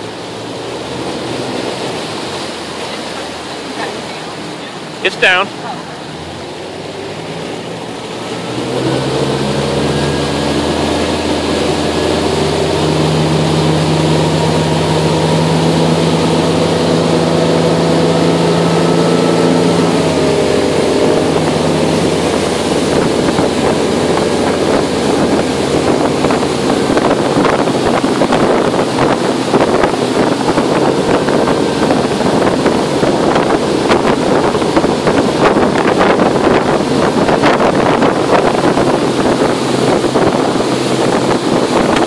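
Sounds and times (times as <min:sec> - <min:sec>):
motorboat engine running: 0:00.0 - 0:42.0
rushing water: 0:00.0 - 0:42.0
wind: 0:00.0 - 0:42.0
wind buffeting microphone: 0:05.7 - 0:42.0.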